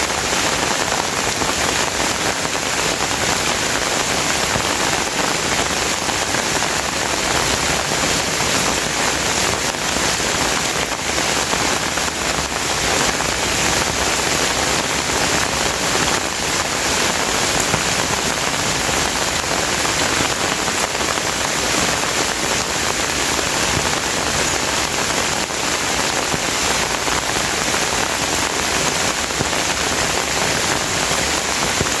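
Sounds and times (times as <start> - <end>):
rain pattering on surfaces: 0.0 - 32.0.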